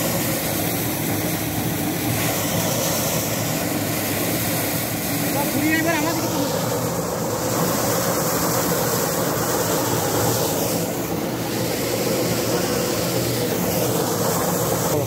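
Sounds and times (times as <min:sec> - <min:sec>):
threshing machine running: 0:00.0 - 0:15.0.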